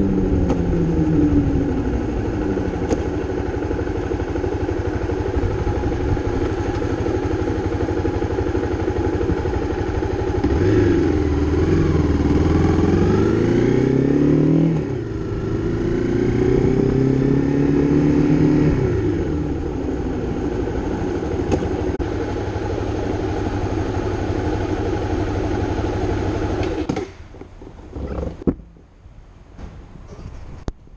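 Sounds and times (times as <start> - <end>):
motorcycle engine revving: 0.0 - 27.3.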